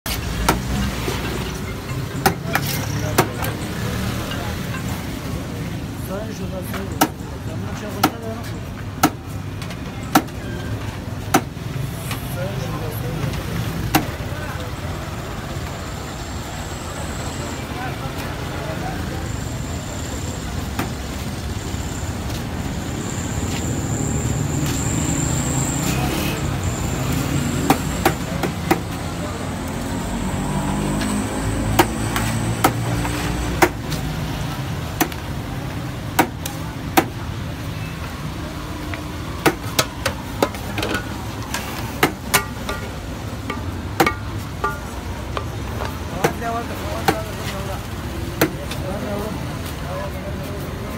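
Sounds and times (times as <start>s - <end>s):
street traffic rumble: 0.0s - 50.9s.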